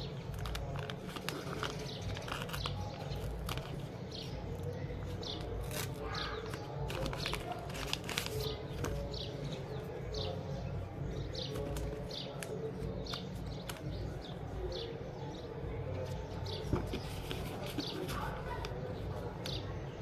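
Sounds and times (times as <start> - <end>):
paper rustling and crackling: 0.0 - 10.4, 11.2 - 14.4, 15.9 - 19.7.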